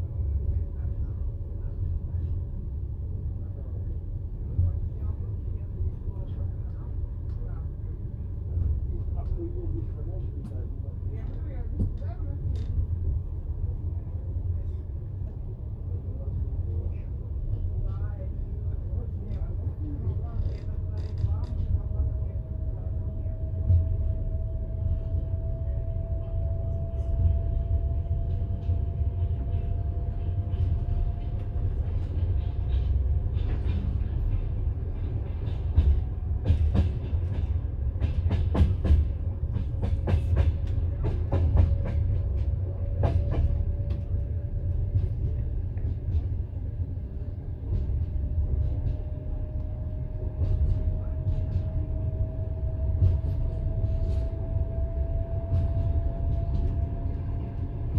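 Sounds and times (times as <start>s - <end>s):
train low rumble: 0.0s - 57.9s.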